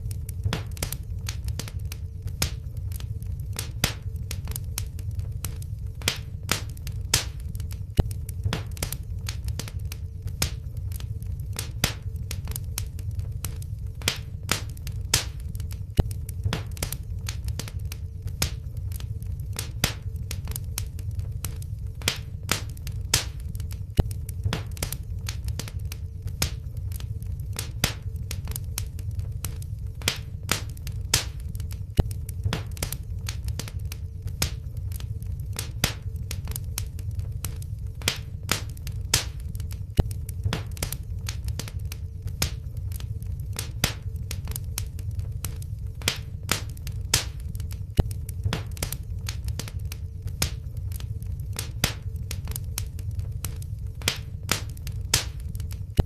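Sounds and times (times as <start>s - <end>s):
faint steady hum: 0.0s - 56.0s
low rumble of flames: 0.0s - 56.0s
wood fire crackling: 0.0s - 56.0s.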